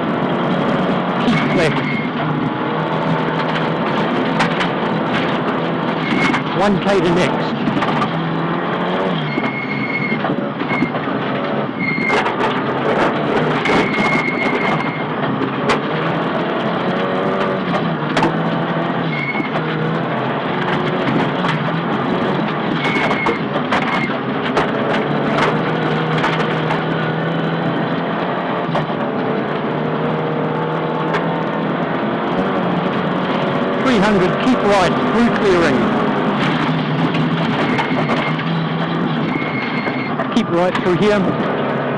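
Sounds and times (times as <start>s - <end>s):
rally car engine revving: 0.0s - 41.9s
car knocking and clattering: 0.1s - 6.6s, 7.5s - 41.9s.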